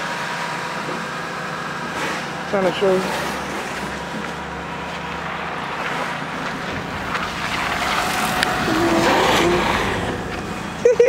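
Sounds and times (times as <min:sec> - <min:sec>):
car passing on slushy street: 0:00.0 - 0:11.0.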